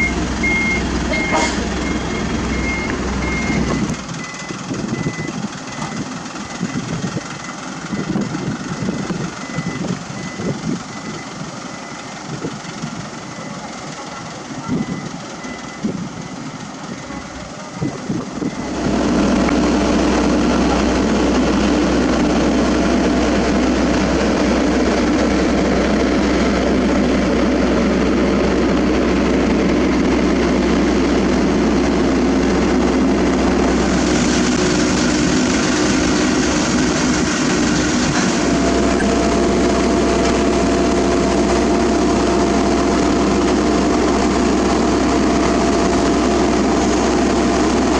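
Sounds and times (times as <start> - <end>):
heavy engine rumbling: 0.0 - 47.9.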